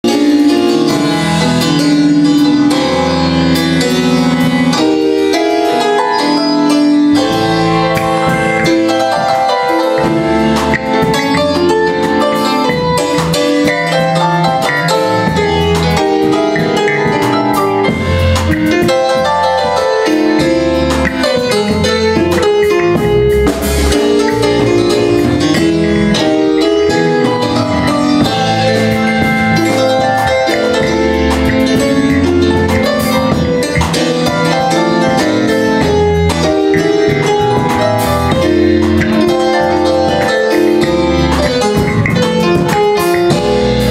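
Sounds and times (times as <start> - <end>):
drum kit: 0.0 - 43.9
electric bass guitar: 0.0 - 43.9
electric keyboard: 0.0 - 43.9.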